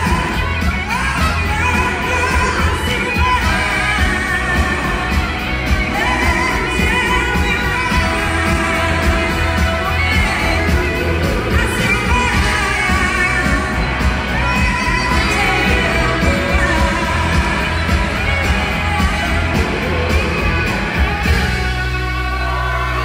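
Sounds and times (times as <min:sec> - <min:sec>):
live rock band playing: 0:00.0 - 0:23.0
woman singing lead vocal: 0:00.0 - 0:23.0.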